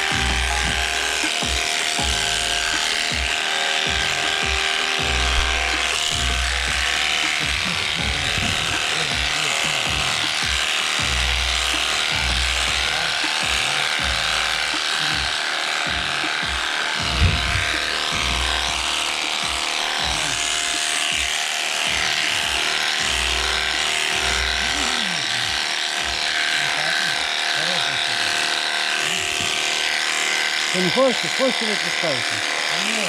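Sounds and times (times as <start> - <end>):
electric shears buzzing: 0.0 - 33.0.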